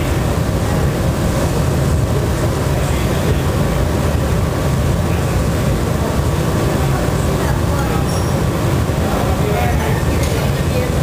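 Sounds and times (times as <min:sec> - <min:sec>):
gas furnace rushing: 0:00.0 - 0:11.0.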